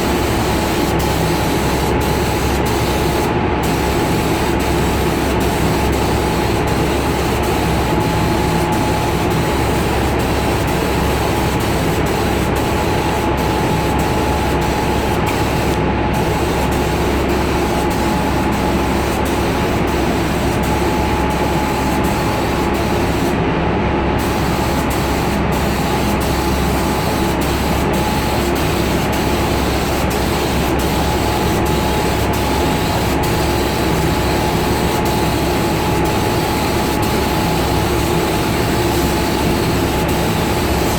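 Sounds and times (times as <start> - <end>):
paint spray gun hissing: 0.1 - 20.9, 24.2 - 40.9.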